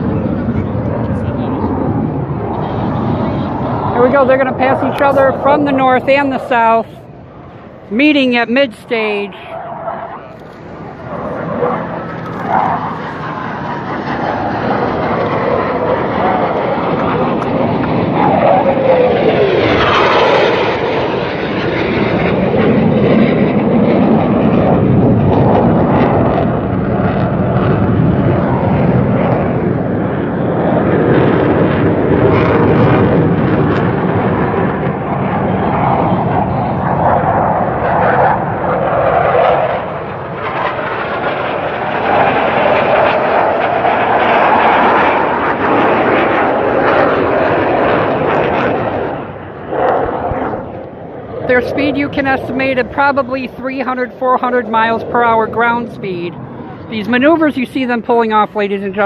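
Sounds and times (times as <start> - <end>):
jets passing low overhead: 0.0 - 59.0.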